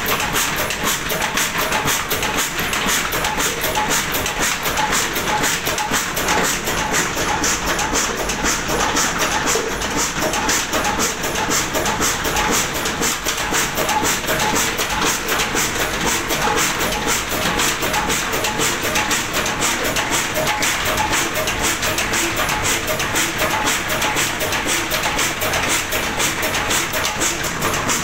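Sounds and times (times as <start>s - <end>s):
stationary diesel engine running: 0.0s - 28.0s.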